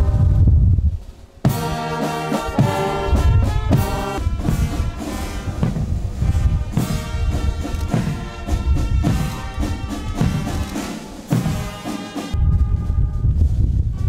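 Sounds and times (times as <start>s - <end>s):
brass band playing held chords: 0.0s - 0.4s, 1.4s - 14.0s.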